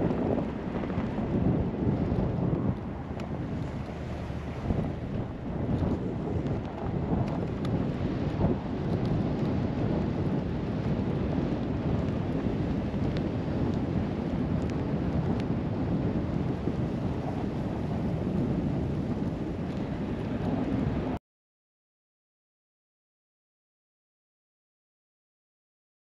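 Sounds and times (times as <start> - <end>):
wind buffeting microphone: 0.0 - 21.2.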